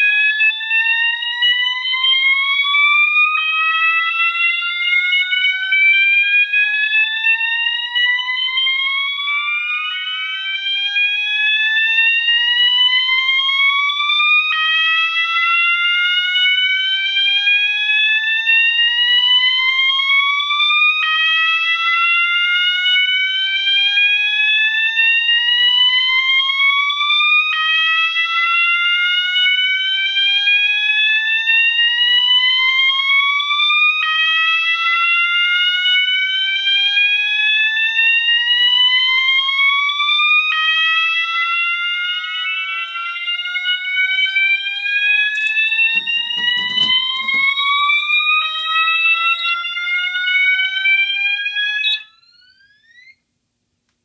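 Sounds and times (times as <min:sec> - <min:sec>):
fire alarm horn rising sweep: 0:00.0 - 0:53.2.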